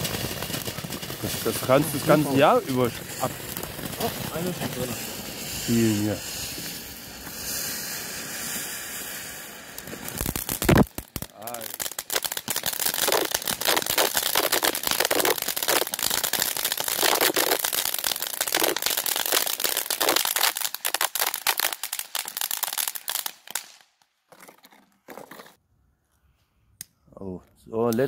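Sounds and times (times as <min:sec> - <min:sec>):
firework fountain crackling: 0:00.0 - 0:24.0.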